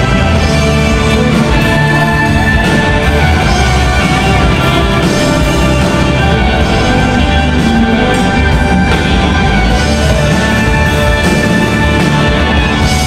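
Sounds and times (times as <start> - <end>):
bass guitar: 0.0 - 13.0
drum kit: 0.0 - 13.0
electric guitars: 0.0 - 13.0.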